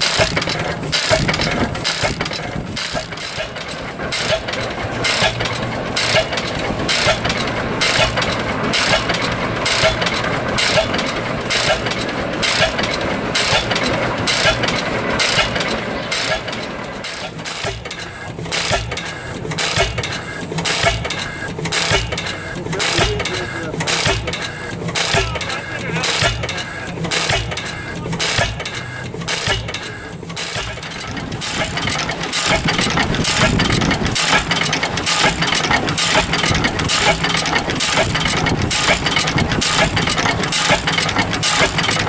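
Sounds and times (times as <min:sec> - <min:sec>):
stationary engine running: 0:00.0 - 0:42.0.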